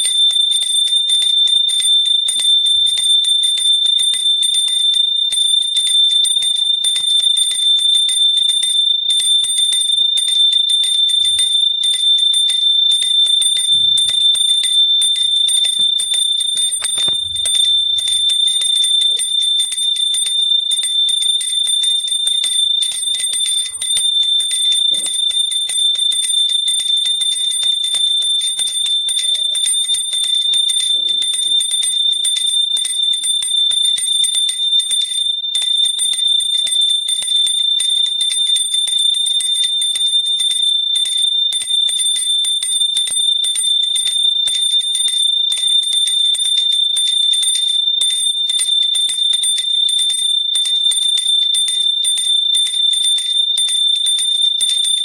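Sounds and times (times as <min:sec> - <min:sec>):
hand bell ringing rapidly: 0:00.0 - 0:55.0.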